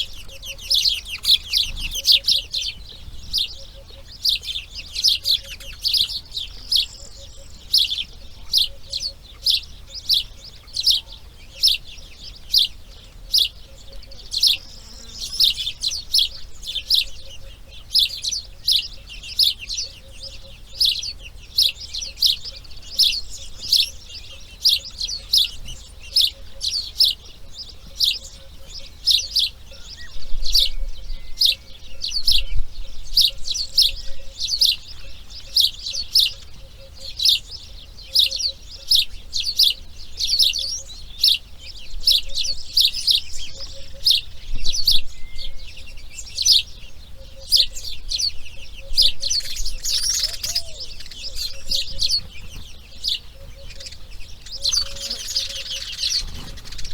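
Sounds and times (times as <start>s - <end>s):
bird chirping: 0.0s - 56.9s.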